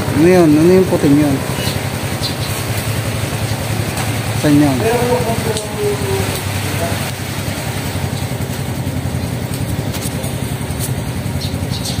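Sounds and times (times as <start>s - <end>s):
motorcycle engine idling: 0.0s - 12.0s
rain hiss: 1.4s - 11.2s.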